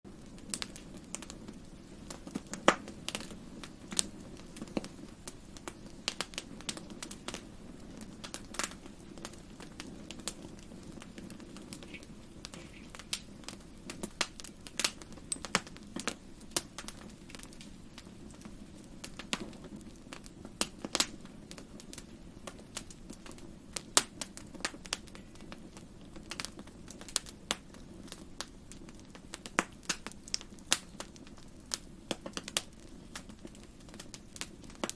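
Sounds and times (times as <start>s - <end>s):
burning wood popping and snapping: 0.1s - 34.9s
flame rushing: 0.1s - 34.9s.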